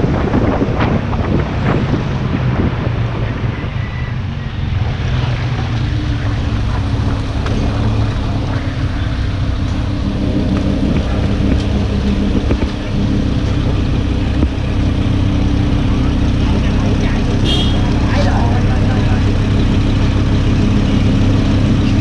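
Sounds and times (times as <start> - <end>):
wind noise: 0.0 - 18.3
sports car engine running: 4.2 - 22.0.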